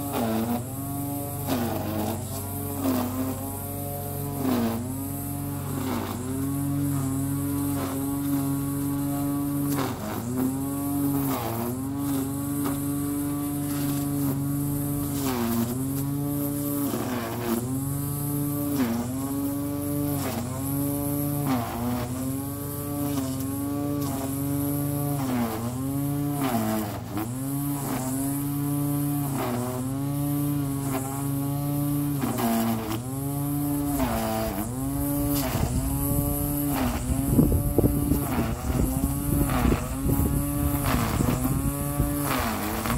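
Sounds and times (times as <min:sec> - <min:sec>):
small electric motor running: 0:00.0 - 0:42.9.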